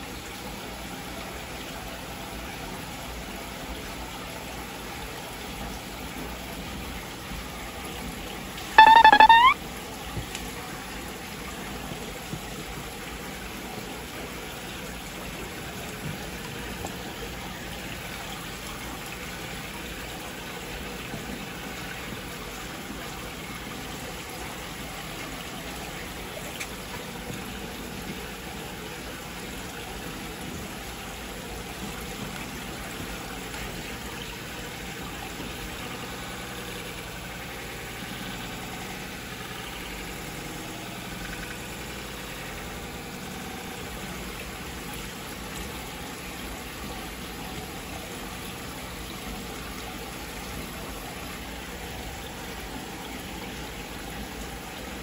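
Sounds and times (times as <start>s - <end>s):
aquarium filter pump running: 0.0s - 55.0s
circulating water trickling: 0.0s - 55.0s.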